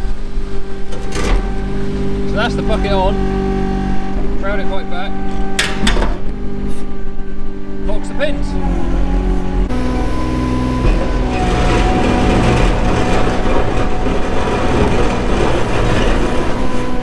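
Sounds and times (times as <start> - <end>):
high whine: 0.0 - 17.0
loader diesel engine running: 0.0 - 17.0.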